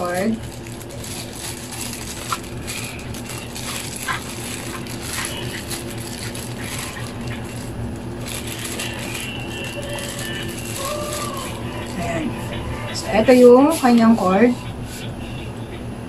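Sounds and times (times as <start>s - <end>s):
plastic bag crinkling: 0.0s - 14.0s
steady low hum: 0.0s - 16.0s.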